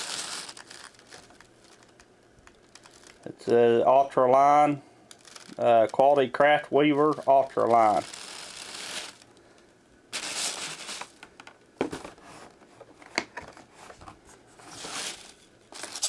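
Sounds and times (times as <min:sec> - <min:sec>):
wrapping crinkling and rustling: 0:00.0 - 0:03.5, 0:04.5 - 0:16.0.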